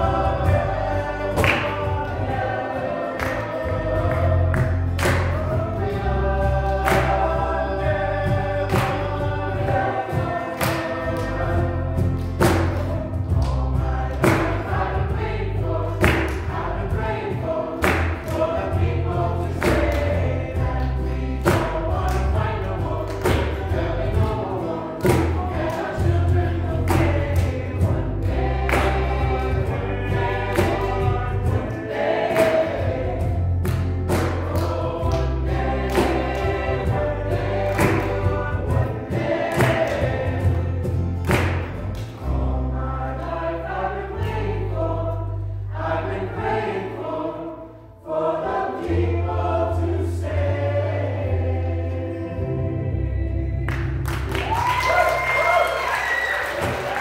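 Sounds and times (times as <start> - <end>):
low bass: 0.0 - 46.4, 49.0 - 55.4
acoustic guitars strumming: 0.0 - 54.5
church choir singing: 0.0 - 57.0.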